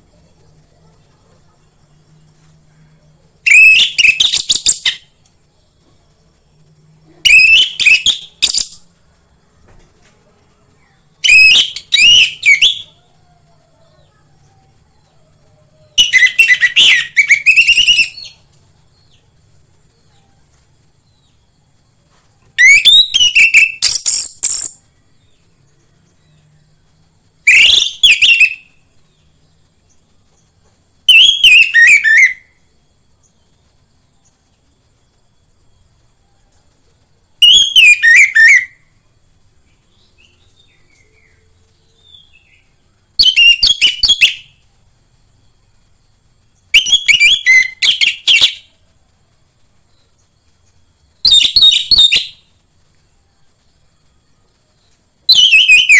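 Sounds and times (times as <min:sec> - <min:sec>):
faint high hiss: 0:00.0 - 0:55.9.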